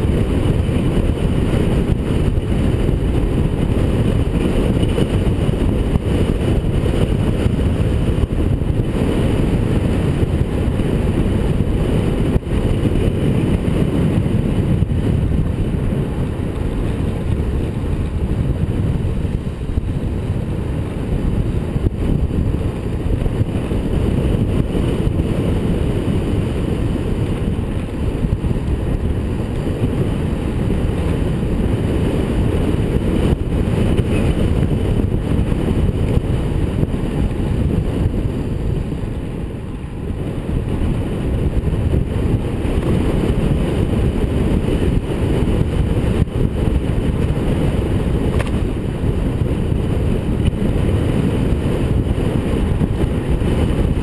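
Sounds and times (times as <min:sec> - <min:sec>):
tyre noise on asphalt: 0:00.0 - 0:54.0
wind buffeting microphone: 0:00.0 - 0:54.0.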